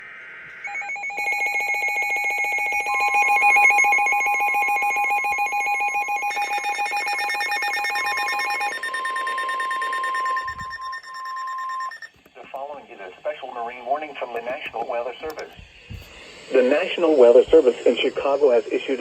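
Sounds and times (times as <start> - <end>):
steady warning tone: 0.0 - 19.0
rapid alarm beeping: 0.7 - 12.2, 13.8 - 19.0.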